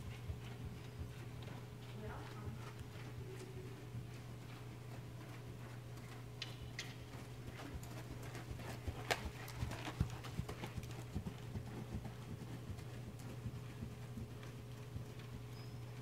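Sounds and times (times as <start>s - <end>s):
horse hoofbeats trotting on sand: 0.0s - 16.0s.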